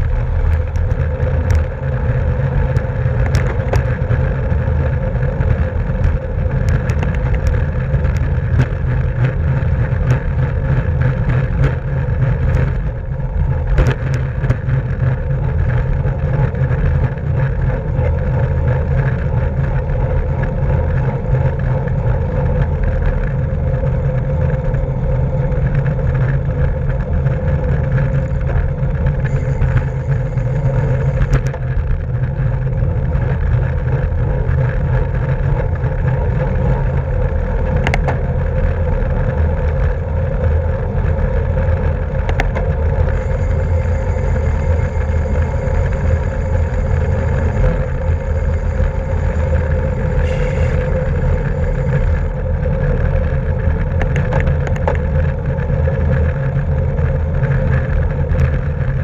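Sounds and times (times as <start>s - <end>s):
bicycle tyre and drivetrain hum: 0.0s - 59.0s
wind rush over microphone: 0.0s - 59.0s.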